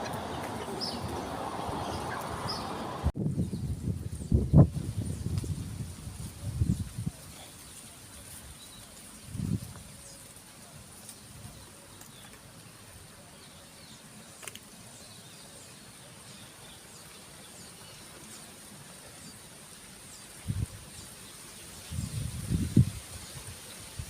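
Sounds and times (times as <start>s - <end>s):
small birds chirping: 0.0s - 5.6s, 6.2s - 24.0s
steady high-pitched hiss: 3.7s - 24.0s.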